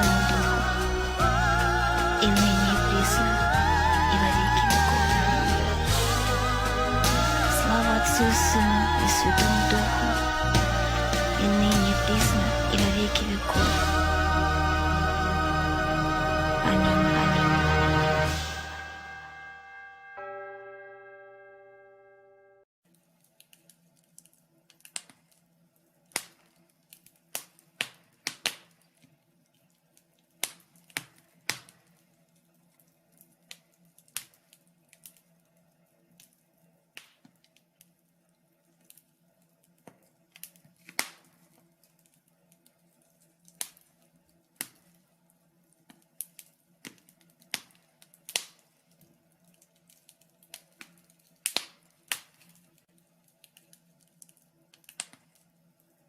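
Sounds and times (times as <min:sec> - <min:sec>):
wood fire crackling: 0:00.0 - 0:19.0, 0:23.0 - 0:56.0.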